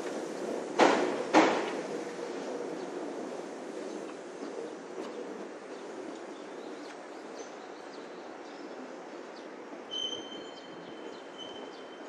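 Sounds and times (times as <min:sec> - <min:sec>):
passing train rumble: 0:00.0 - 0:12.0.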